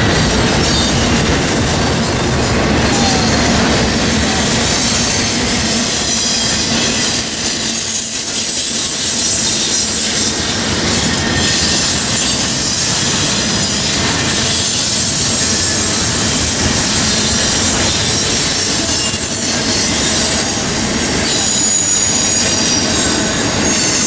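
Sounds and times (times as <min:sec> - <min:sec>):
train wheels rumbling on rail: 0:00.0 - 0:24.0
high wheel squeal: 0:02.0 - 0:24.0.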